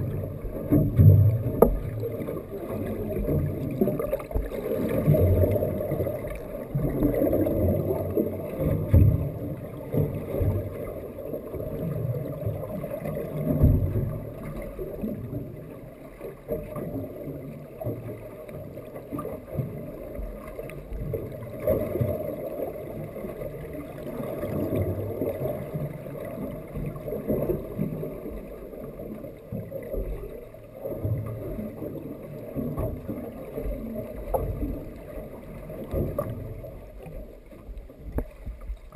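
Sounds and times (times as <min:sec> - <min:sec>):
muffled underwater sloshing: 0:00.0 - 0:38.9.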